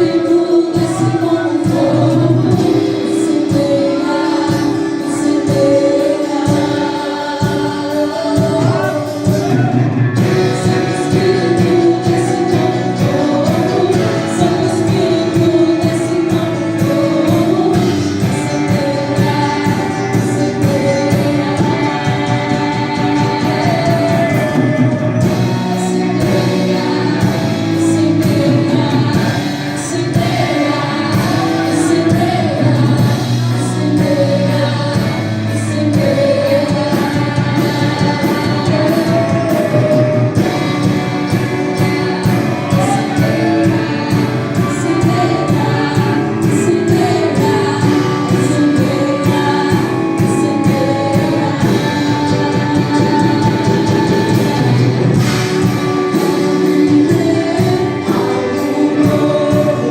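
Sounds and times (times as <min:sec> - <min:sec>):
band playing gospel music: 0:00.0 - 0:59.9
group of singers: 0:00.0 - 0:59.9.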